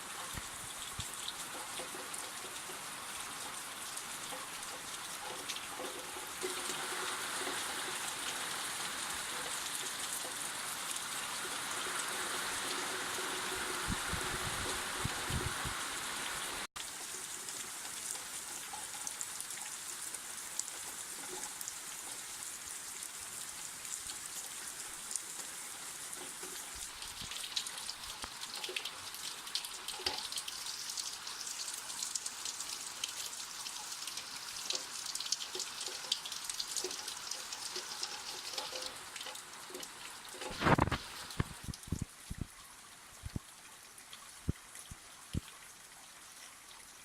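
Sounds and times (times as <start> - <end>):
rain falling: 0.0 - 47.0
raindrops ticking on surfaces: 0.0 - 47.0.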